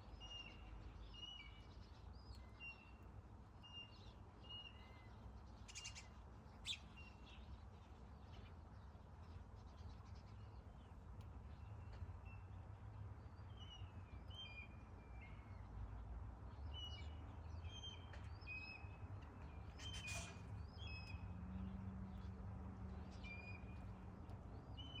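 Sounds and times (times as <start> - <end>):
faint outdoor background: 0.0 - 25.0.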